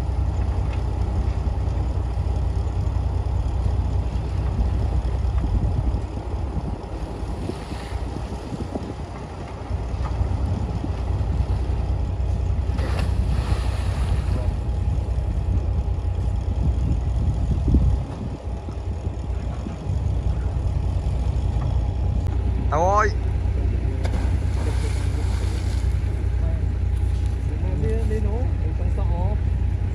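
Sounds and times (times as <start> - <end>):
heavy diesel machinery rumbling: 0.0 - 29.9.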